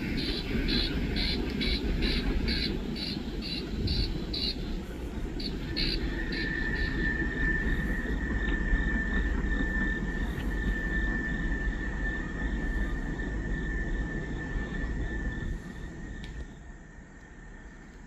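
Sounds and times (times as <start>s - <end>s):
thin high whine: 0.0s - 18.0s
train cars rumbling over rails: 0.0s - 18.0s.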